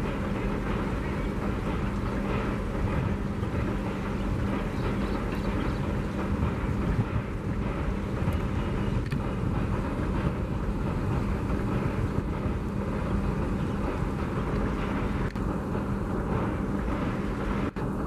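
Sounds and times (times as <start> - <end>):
train rumbling across steel bridge: 0.0 - 18.0.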